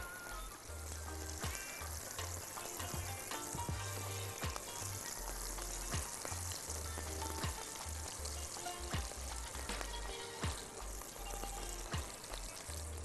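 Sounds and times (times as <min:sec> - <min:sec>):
meatballs sizzling in oil: 0:00.0 - 0:13.0.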